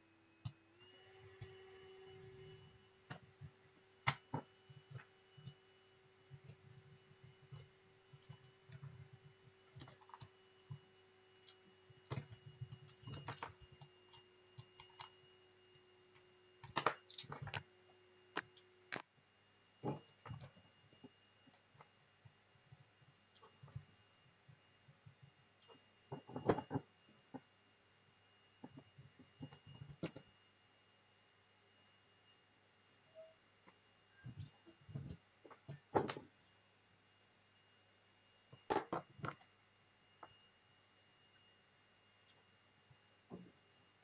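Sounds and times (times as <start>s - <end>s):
faint steady tone: 0.0s - 44.0s.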